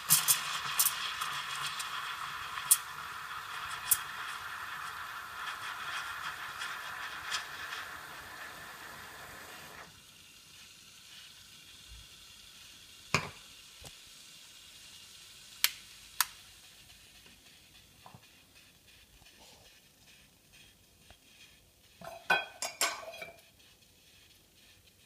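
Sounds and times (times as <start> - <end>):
steam wand hissing in milk: 0.0 - 25.0.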